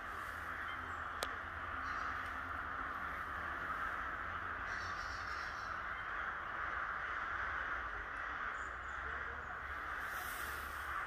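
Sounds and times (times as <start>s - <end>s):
crows cawing: 0.0s - 11.0s.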